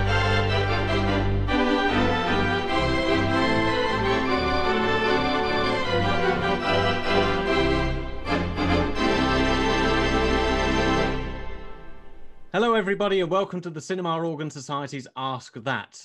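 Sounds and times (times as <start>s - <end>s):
organ music: 0.0s - 13.4s.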